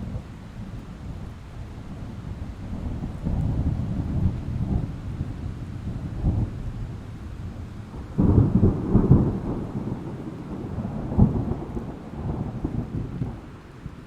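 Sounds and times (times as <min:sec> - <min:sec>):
steady rain: 0:00.0 - 0:14.0
thunder rumble: 0:00.0 - 0:14.0.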